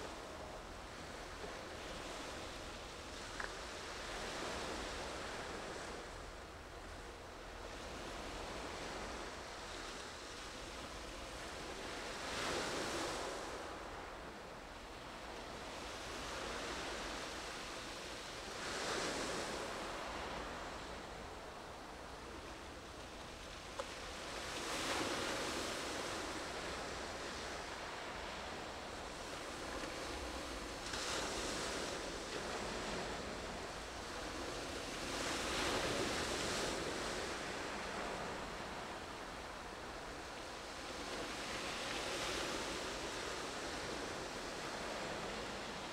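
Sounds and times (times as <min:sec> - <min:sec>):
sea waves washing on shore: 0:00.0 - 0:45.9.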